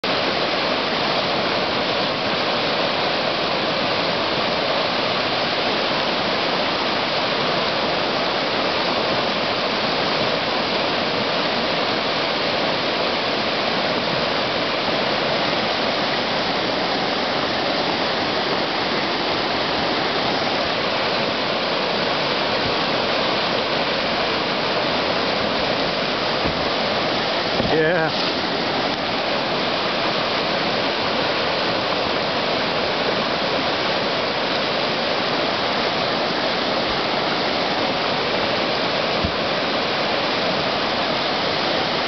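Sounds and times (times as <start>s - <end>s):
whitewater rushing: 0.0s - 42.0s.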